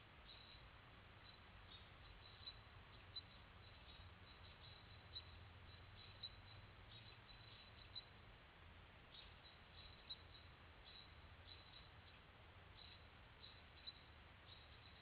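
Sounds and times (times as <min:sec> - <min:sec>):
faint high-pitched chirps: 0:00.0 - 0:08.3, 0:09.0 - 0:15.0
faint steady hiss: 0:00.0 - 0:15.0.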